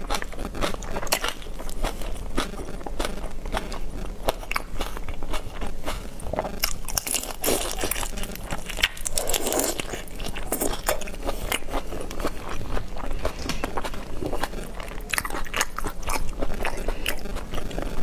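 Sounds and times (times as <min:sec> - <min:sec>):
crunchy chewing of prawns: 0:00.0 - 0:18.0.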